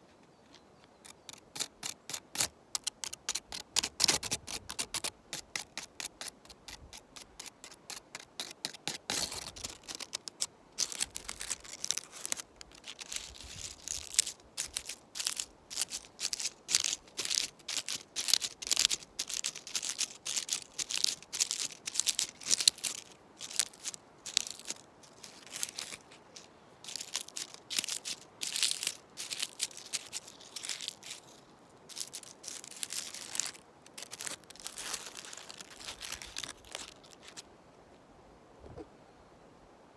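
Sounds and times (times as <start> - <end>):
branch and dry leaves rustling: 1.0 - 37.4.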